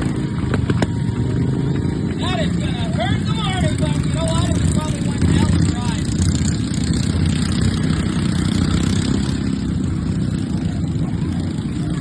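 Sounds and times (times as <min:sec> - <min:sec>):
riding lawnmower engines running: 0:00.0 - 0:12.0.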